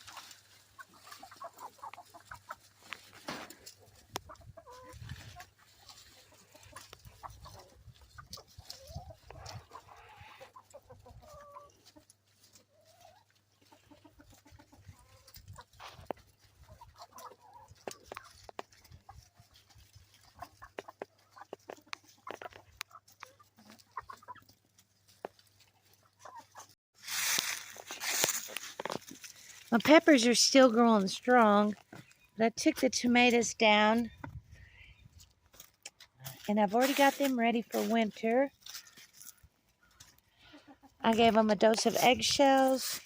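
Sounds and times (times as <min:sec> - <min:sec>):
chickens clucking: 0:00.0 - 0:26.8, 0:27.4 - 0:43.0.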